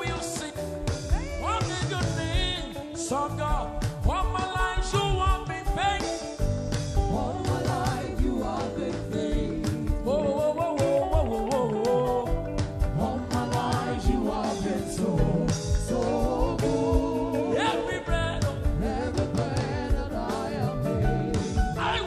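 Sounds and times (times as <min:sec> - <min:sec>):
band playing: 0:00.0 - 0:22.0
people singing: 0:00.0 - 0:22.0
steady drum beat: 0:00.0 - 0:22.0.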